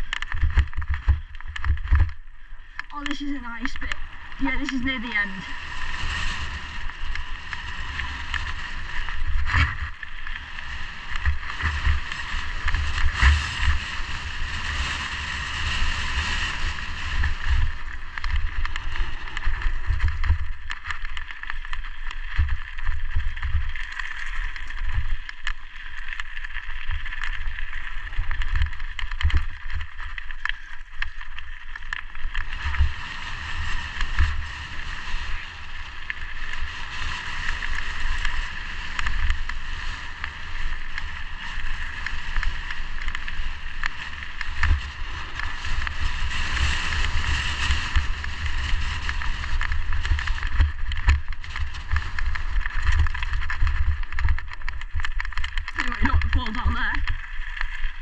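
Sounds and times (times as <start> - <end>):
bike rattling over bumps: 0.0 - 58.0.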